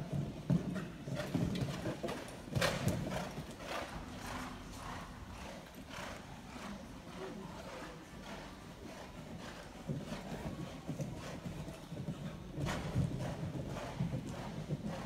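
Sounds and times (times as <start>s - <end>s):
horse hoofbeats on sand: 0.0s - 6.7s, 8.2s - 15.0s.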